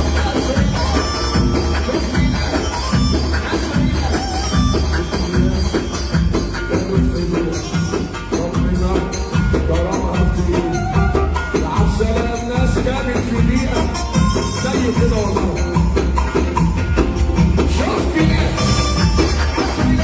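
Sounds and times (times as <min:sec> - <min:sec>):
upbeat music with heavy bass: 0:00.0 - 0:20.0.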